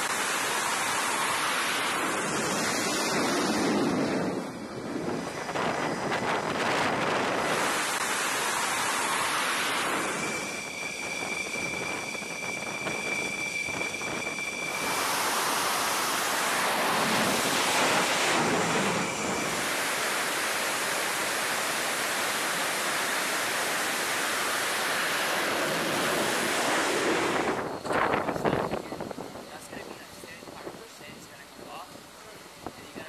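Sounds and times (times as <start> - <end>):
jet engine whine and roar: 0.0 - 33.0.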